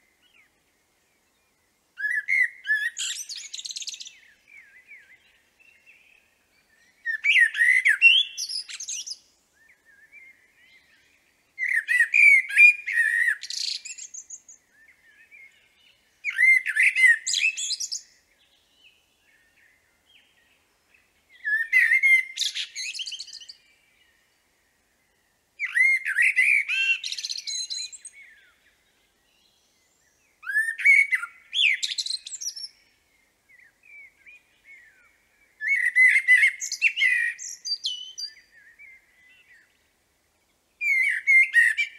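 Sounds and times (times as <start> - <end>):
blackbird singing: 1.2 - 24.4, 25.6 - 39.8, 40.8 - 41.9.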